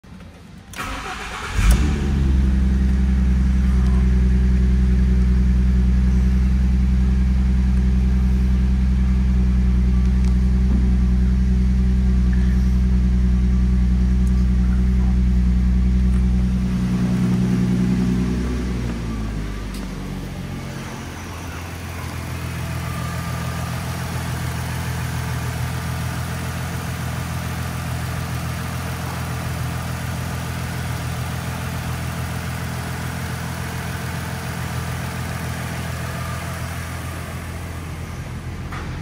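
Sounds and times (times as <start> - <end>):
car engine starting and idling: 0.1 - 39.0.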